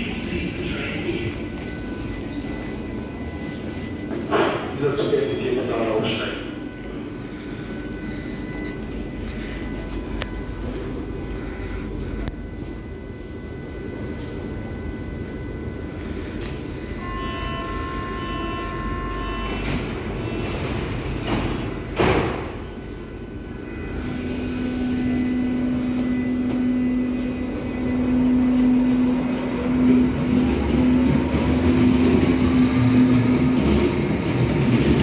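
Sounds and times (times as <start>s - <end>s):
electric train drive hum: 0.0s - 35.0s
warning tone: 0.6s - 21.6s, 22.6s - 34.0s.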